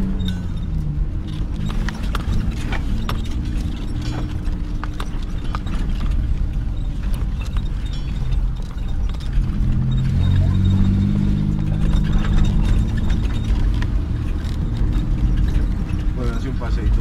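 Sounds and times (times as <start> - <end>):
car body rattling over bumps: 0.0 - 17.0
car engine running low: 0.0 - 17.0.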